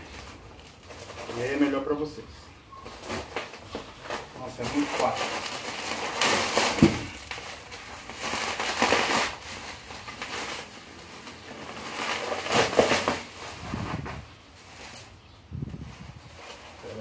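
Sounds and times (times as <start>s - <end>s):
bubble wrap crinkling: 0.0s - 2.1s, 2.8s - 17.0s.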